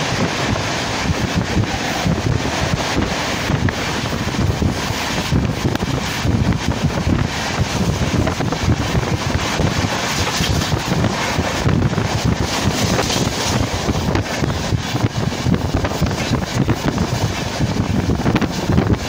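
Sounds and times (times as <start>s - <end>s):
train rumbling on track: 0.0s - 19.0s
wind buffeting microphone: 0.0s - 19.0s.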